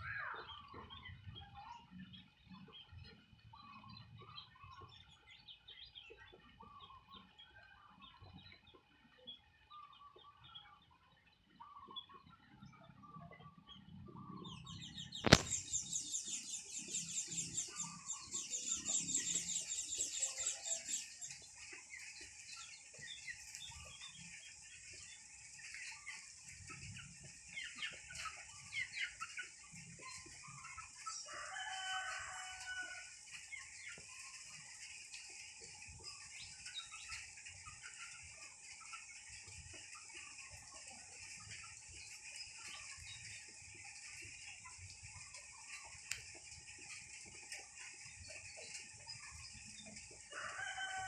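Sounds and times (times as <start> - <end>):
birds chirping and calling: 0.0 - 51.0.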